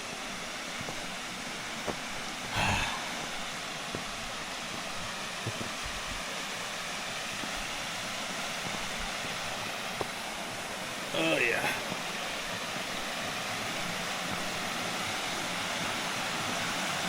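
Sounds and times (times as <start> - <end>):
rushing creek: 0.0 - 17.0.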